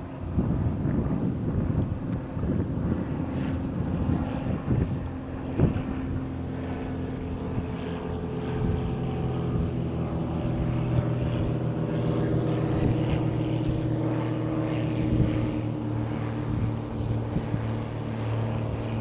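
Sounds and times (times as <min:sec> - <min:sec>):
jet engines running steadily: 0:00.0 - 0:19.0.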